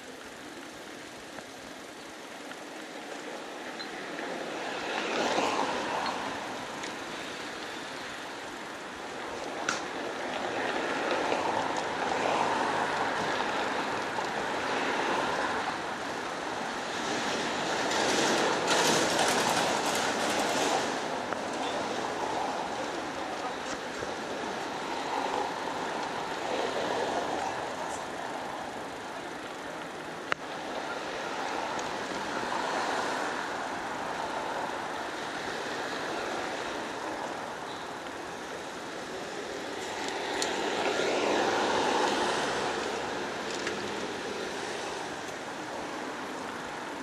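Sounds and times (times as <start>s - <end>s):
vehicles passing: 0.0s - 47.0s.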